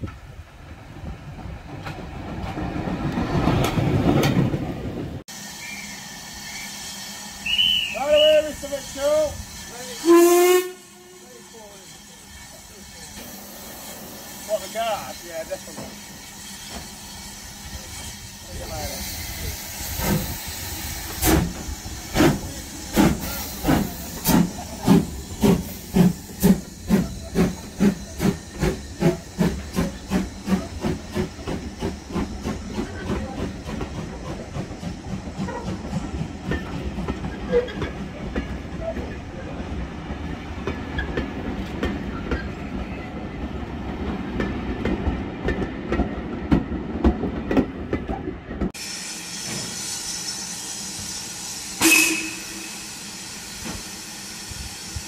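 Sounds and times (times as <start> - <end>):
steam locomotive exhaust beats: 5.1 - 55.0.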